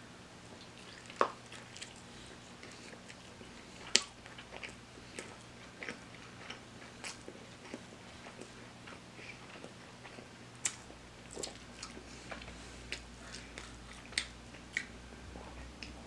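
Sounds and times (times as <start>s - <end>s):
chewing fried chicken: 0.4s - 16.0s.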